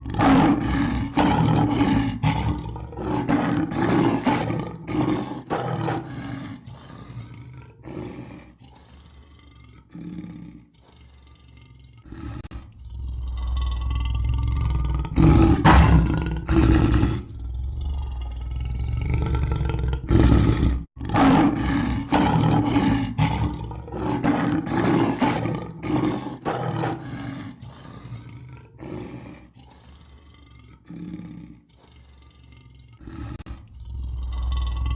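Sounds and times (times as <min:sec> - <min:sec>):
lion roaring: 0:00.0 - 0:34.9.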